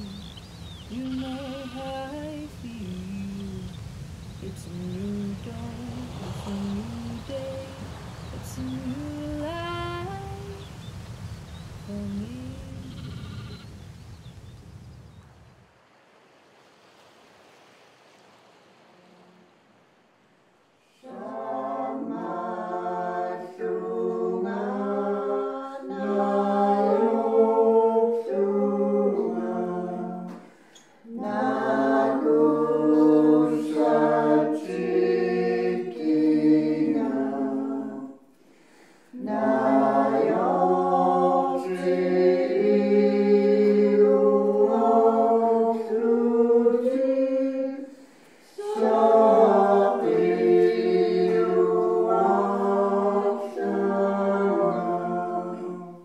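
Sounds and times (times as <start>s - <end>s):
choir singing in harmony: 0.0s - 10.8s, 20.9s - 38.4s, 39.1s - 56.0s.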